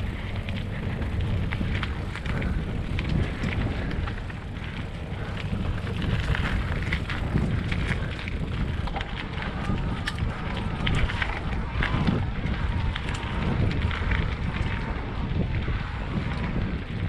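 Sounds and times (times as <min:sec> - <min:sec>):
light crackles and clicks: 0:00.0 - 0:17.0
wind buffeting microphone: 0:00.0 - 0:17.0.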